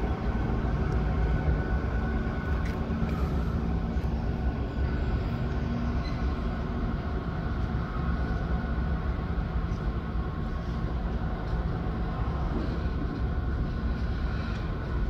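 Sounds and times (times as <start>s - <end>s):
faint locomotive drone: 0.0s - 15.0s
freight train rumbling past: 0.0s - 15.0s.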